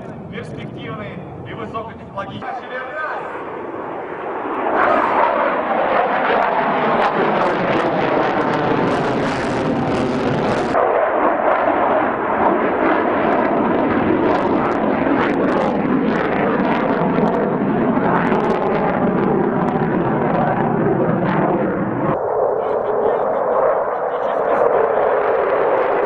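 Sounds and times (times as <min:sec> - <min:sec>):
fighter jet engines roaring: 0:00.0 - 0:26.0.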